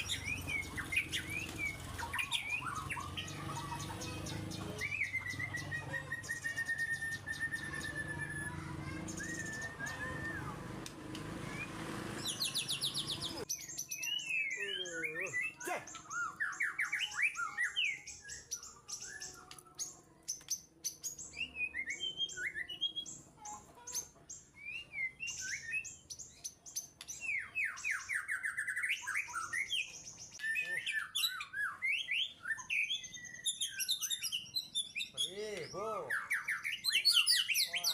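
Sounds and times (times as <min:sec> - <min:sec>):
songbirds chirping and whistling: 0:00.0 - 0:37.9.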